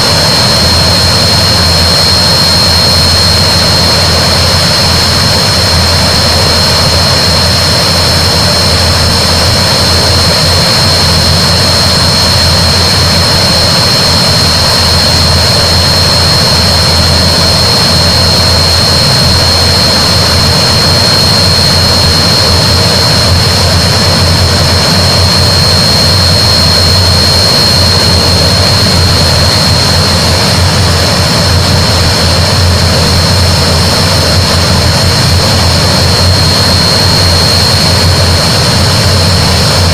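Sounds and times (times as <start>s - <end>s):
deep propeller drone: 0.0s - 39.9s
turbine whine: 0.0s - 39.9s.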